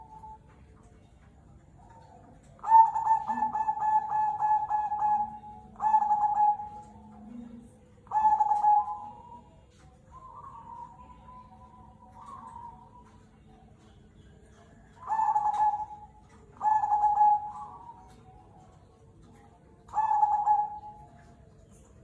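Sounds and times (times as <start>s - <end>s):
dove cooing: 0.0s - 0.6s, 1.7s - 22.0s.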